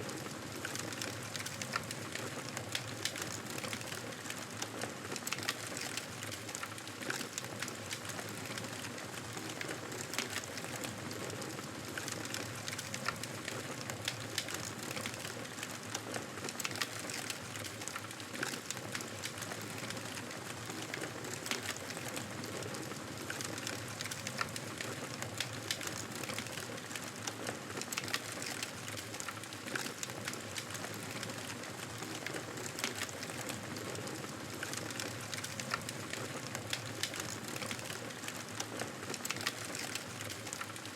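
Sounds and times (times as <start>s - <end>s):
campfire crackling and popping: 0.5s - 40.9s.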